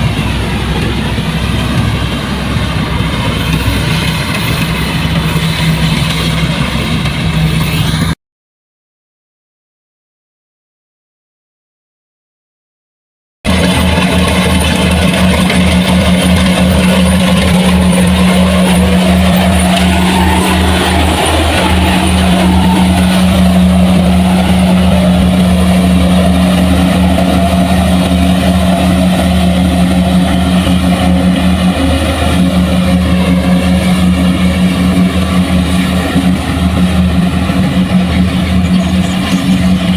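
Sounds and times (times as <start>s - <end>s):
farm machine engine running: 0.0s - 8.2s, 13.5s - 39.9s.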